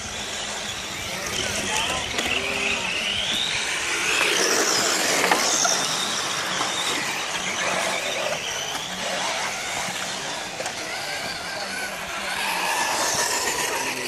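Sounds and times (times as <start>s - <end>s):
model car motors whining: 0.0s - 14.0s.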